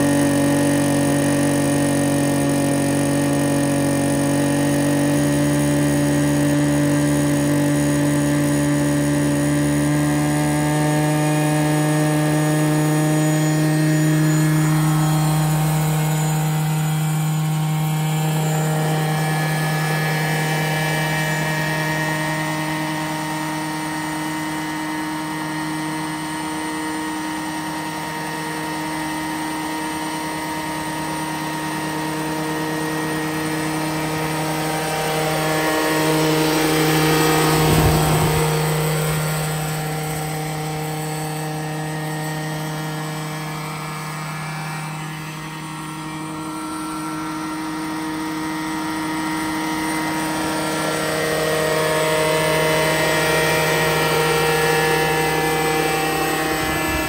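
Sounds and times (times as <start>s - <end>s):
model helicopter engine and rotors: 0.0s - 57.0s.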